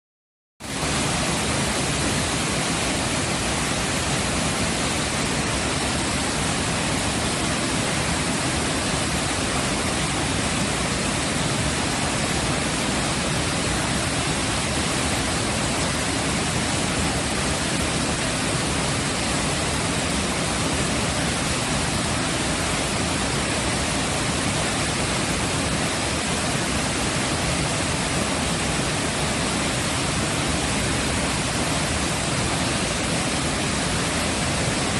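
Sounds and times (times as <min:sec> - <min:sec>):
waterfall rushing: 0:00.6 - 0:34.9.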